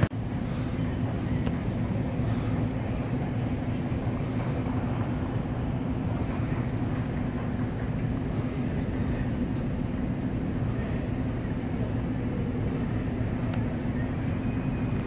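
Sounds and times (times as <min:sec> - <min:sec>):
constant hum: 0:00.0 - 0:15.0
vehicle engine rumble: 0:00.0 - 0:15.0.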